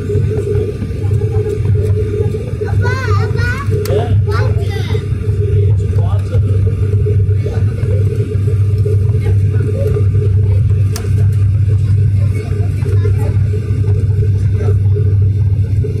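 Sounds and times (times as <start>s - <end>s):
aircraft engine and airflow drone: 0.0s - 16.0s.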